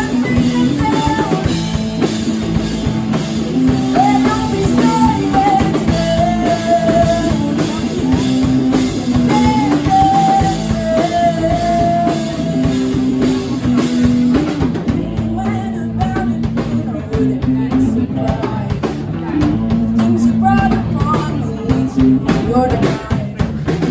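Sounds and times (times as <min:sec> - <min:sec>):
held melody line: 0:00.0 - 0:23.0
bass guitar: 0:00.0 - 0:23.9
drum kit: 0:00.0 - 0:23.9
electric guitar: 0:00.0 - 0:23.9.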